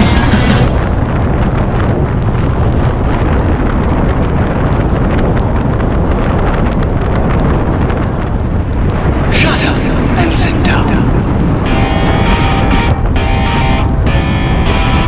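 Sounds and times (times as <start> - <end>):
wet road noise: 0.0 - 15.0
wind rushing on microphone: 0.0 - 15.0
raindrops ticking on camera: 0.7 - 15.0.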